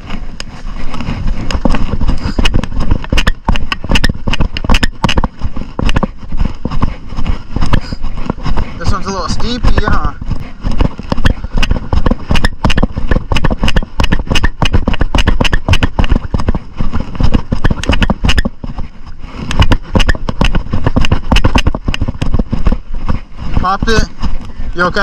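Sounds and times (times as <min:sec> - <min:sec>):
knocking and rattling over rough ground: 0:00.0 - 0:25.0.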